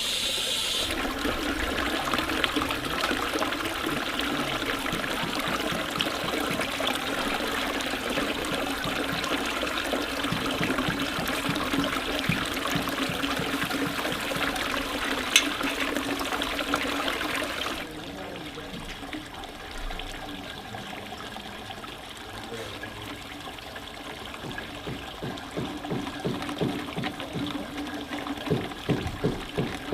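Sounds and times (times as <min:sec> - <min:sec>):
water running and trickling: 0:00.0 - 0:29.9.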